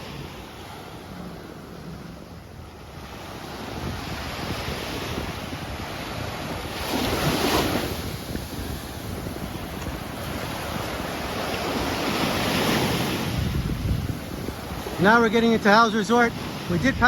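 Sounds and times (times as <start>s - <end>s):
small waves washing onto sand: 0.0s - 17.0s
wind buffeting microphone: 0.1s - 17.0s.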